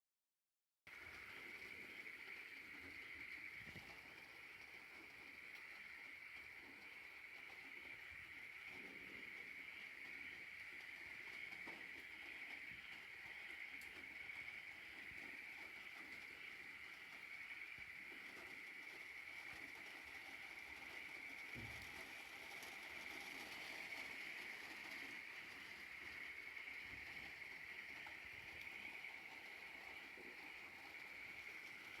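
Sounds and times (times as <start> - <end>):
high hiss: 0.9 - 32.0.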